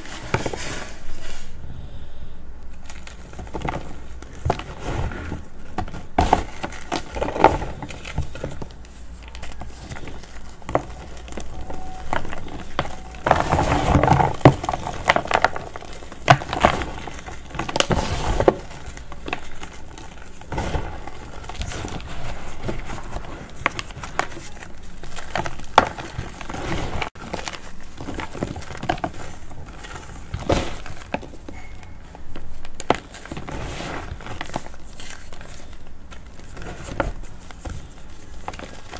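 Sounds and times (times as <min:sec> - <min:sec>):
chalk crunching and crackling: 0:02.8 - 0:31.5, 0:32.4 - 0:38.9.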